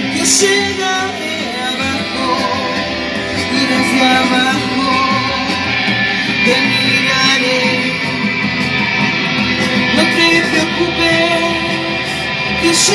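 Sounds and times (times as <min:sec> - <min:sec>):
woman singing: 0:00.0 - 0:08.4, 0:09.8 - 0:12.9
bass guitar playing: 0:00.0 - 0:12.9
guitar playing: 0:00.0 - 0:12.9.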